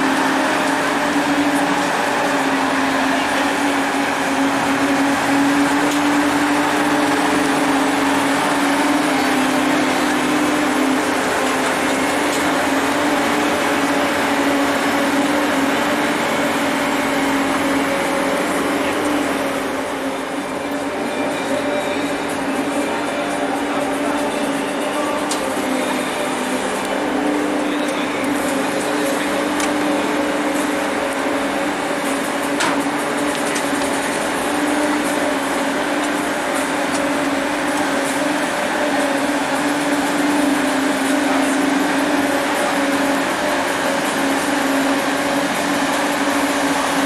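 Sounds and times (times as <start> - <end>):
machine hum: 0.0 - 47.0.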